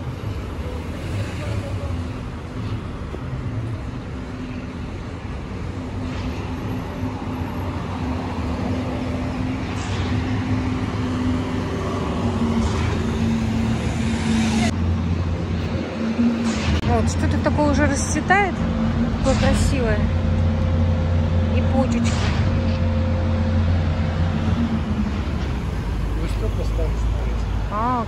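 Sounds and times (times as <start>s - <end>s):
car and bus engines passing: 0.0s - 28.0s.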